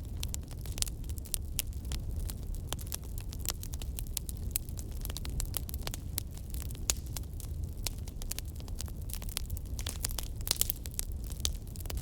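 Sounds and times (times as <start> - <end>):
wood fire popping and snapping: 0.0 - 12.0.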